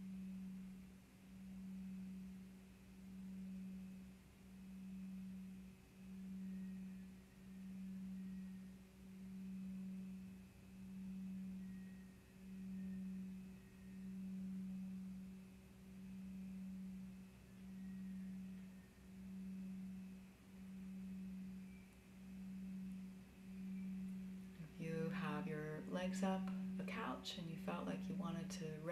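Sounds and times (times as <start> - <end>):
pulsing low humming tone: 0.0 - 28.9.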